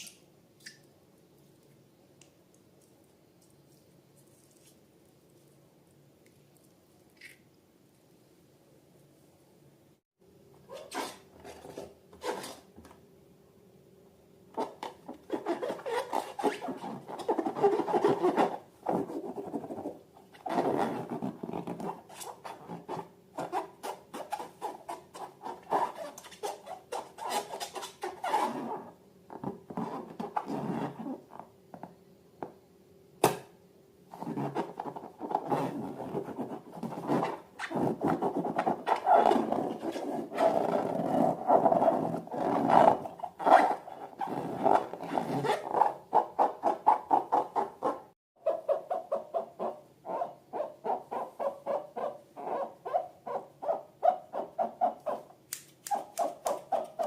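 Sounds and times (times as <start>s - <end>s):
faint steady hum: 0.0s - 46.1s.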